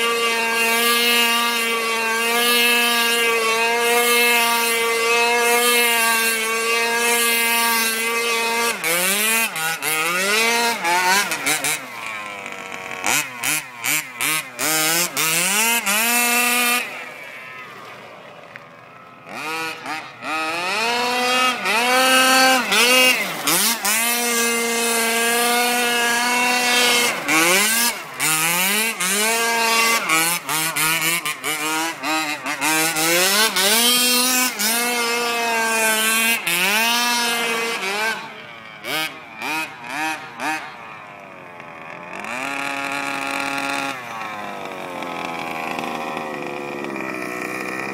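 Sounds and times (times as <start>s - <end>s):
small two-stroke engine revving: 0.0s - 47.9s.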